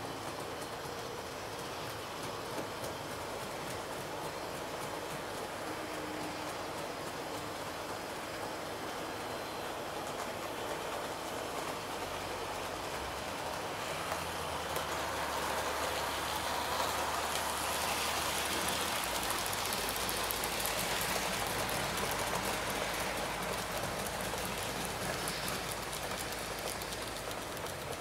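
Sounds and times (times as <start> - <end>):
model train wheels hissing on rails: 0.0 - 28.0
fine rapid clicking: 0.1 - 28.0.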